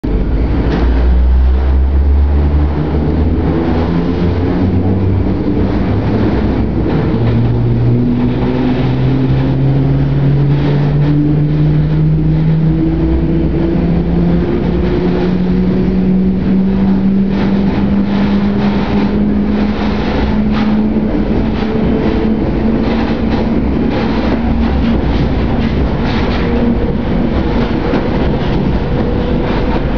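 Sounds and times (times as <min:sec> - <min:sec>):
electric train motors humming: 0:00.1 - 0:29.9.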